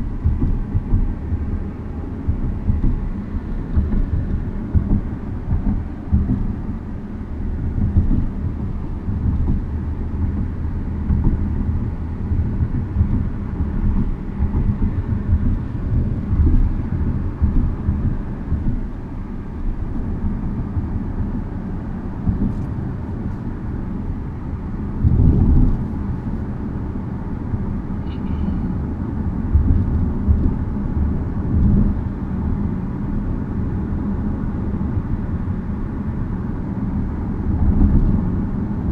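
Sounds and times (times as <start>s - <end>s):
car road rumble: 0.0s - 38.9s.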